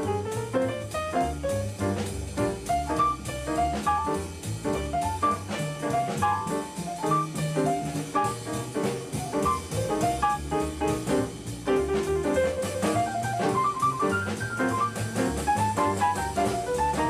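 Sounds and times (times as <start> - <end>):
jazz combo playing: 0.0 - 17.0.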